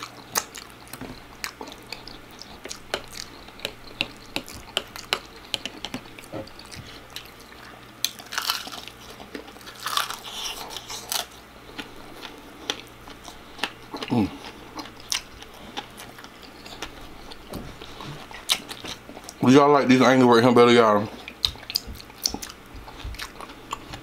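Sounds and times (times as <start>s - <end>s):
person chewing and crunching: 0.0s - 20.2s, 20.9s - 24.0s.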